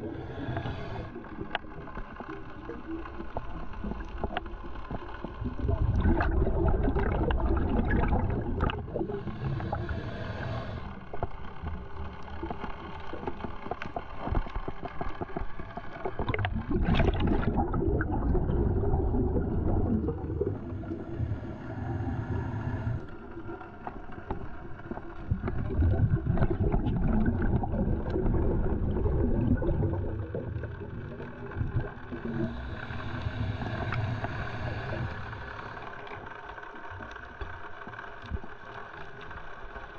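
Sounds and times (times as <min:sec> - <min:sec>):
underwater regulator bubbles: 0:00.0 - 0:36.1.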